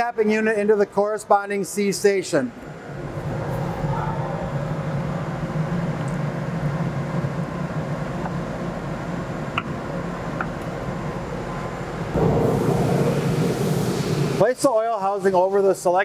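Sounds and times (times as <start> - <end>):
low machine hum: 2.4 - 16.0.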